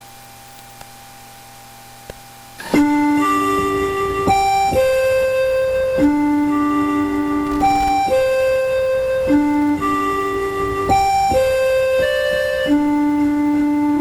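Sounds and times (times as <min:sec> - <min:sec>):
keyboard music with held chords: 0:02.6 - 0:14.0.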